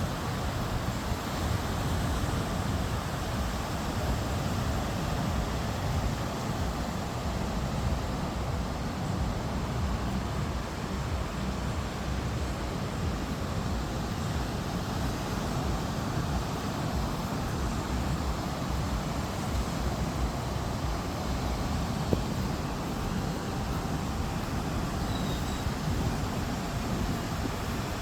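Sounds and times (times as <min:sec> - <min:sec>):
ocean surf on a beach: 0:00.0 - 0:28.0
wind rumbling on microphone: 0:00.0 - 0:28.0.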